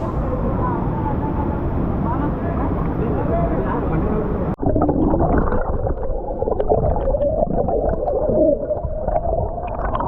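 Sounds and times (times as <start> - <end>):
muffled water rushing and gurgling: 0.0 - 10.0.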